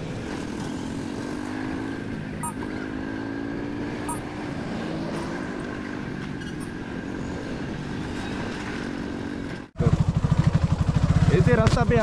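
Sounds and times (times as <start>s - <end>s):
motorcycle engine running: 0.0s - 7.9s, 8.6s - 12.0s
road and wind noise: 0.0s - 12.0s.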